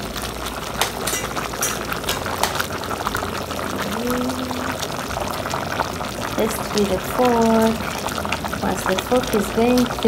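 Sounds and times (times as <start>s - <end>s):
sauce bubbling in a pot: 0.0s - 10.0s.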